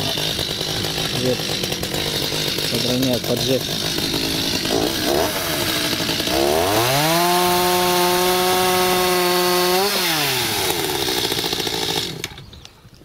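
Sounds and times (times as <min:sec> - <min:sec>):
chainsaw revving and cutting wood: 0:00.0 - 0:12.5.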